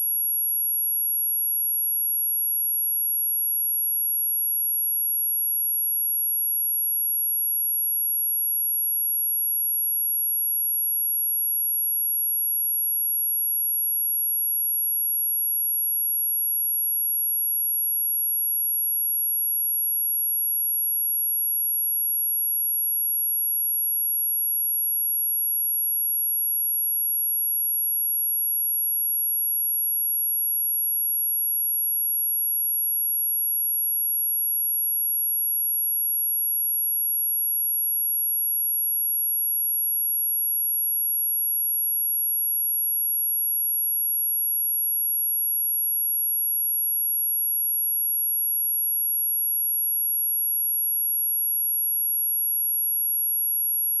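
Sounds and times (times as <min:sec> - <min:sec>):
high sine-wave test tone: 0:10.7 - 0:54.0.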